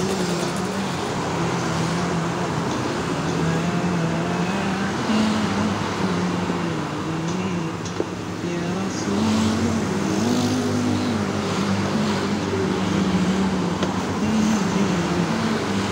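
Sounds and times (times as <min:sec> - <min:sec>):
background traffic rumble: 0:00.0 - 0:15.9.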